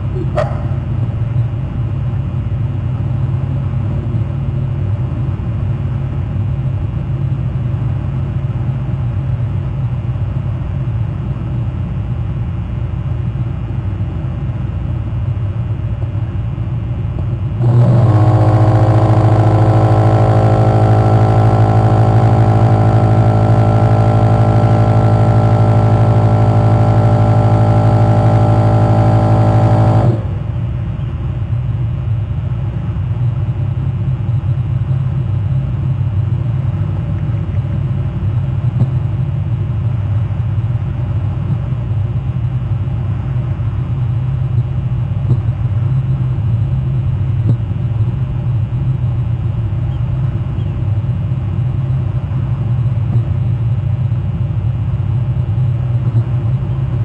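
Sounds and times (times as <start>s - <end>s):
constant low rumble: 0.0s - 57.0s
low hum with overtones: 0.0s - 57.0s.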